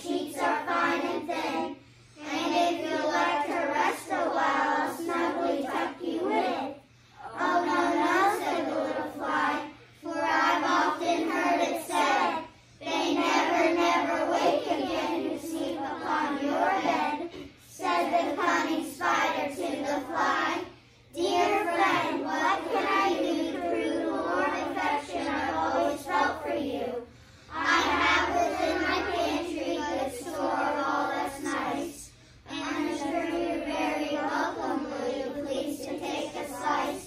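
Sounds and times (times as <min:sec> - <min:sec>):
children reciting in unison: 0:00.0 - 0:37.0.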